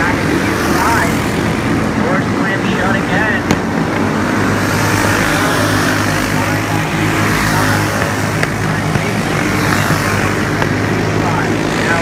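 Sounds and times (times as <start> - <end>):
kart engines droning: 0.0 - 12.0.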